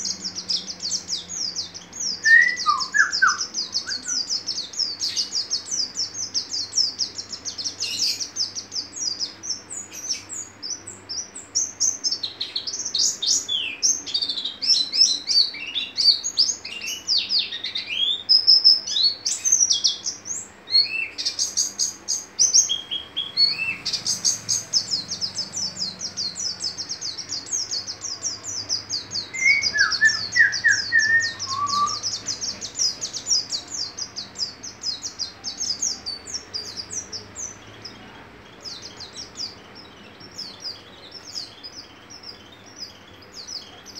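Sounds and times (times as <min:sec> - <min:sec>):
bird twittering song: 0:00.0 - 0:43.9.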